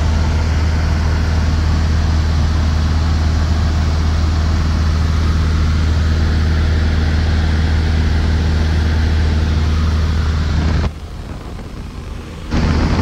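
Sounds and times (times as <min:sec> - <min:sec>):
light aircraft engine drone in cabin: 0:00.0 - 0:13.0.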